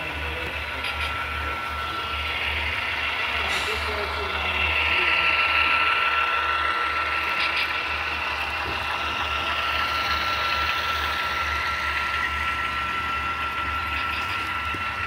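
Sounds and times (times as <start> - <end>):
model train motor whir: 0.0 - 15.0
wheels running over rails: 0.0 - 15.0.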